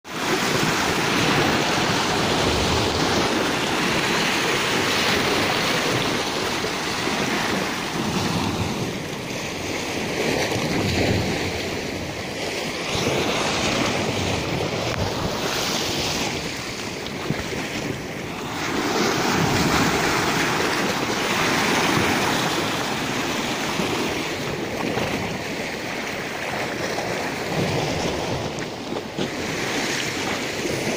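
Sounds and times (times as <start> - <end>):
waves washing against rocky shore: 0.1 - 30.9
wind on microphone: 0.1 - 30.9.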